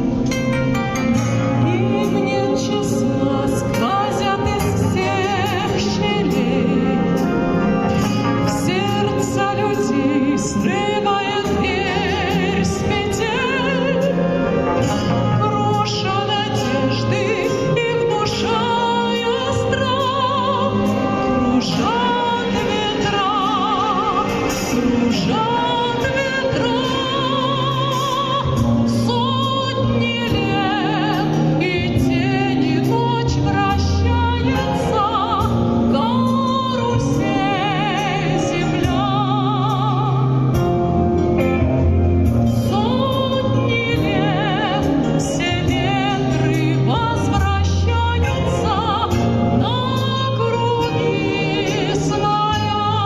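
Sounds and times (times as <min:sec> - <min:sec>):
instrumental accompaniment: 0:00.0 - 0:53.0
woman singing with vibrato: 0:01.0 - 0:53.0.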